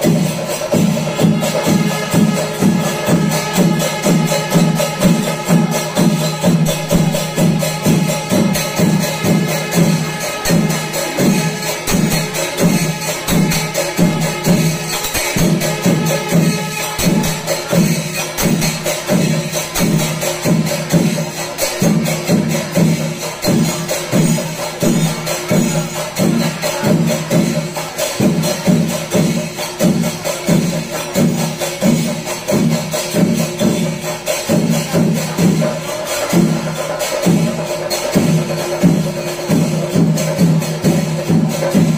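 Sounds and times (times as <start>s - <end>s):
drums beating steady pulse: 0.0s - 41.9s
small hand cymbals clashing: 0.0s - 41.9s.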